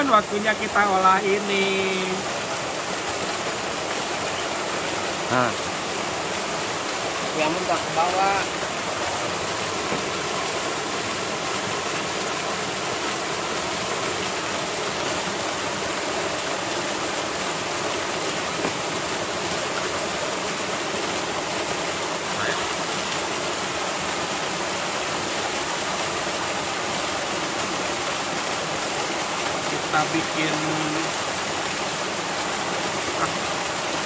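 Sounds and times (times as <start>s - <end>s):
small waterfall splashing: 0.0s - 34.0s.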